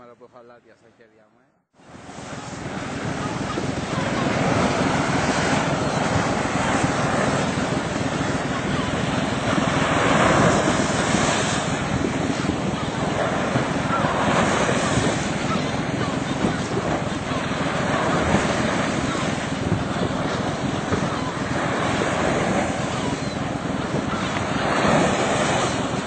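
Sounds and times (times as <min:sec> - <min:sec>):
wind buffeting microphone: 0:01.8 - 0:26.0
water washing past boat hull: 0:01.9 - 0:26.0.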